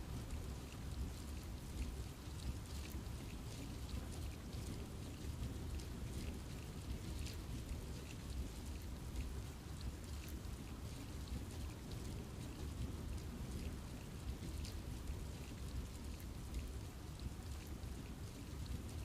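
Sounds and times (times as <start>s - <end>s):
rain falling on trees: 0.0s - 19.0s.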